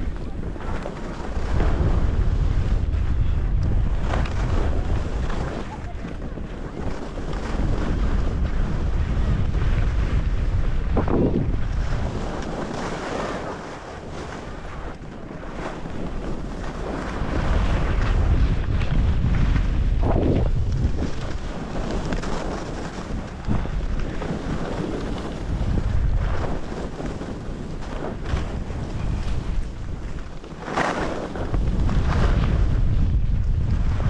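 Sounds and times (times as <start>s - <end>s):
ski scrapes: 0.0s - 2.8s, 3.9s - 9.2s, 11.1s - 32.8s
wind buffeting microphone: 0.0s - 34.0s.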